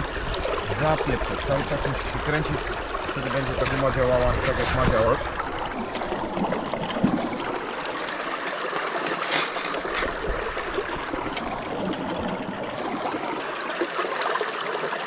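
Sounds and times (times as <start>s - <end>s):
water running through sluice box: 0.0s - 15.0s.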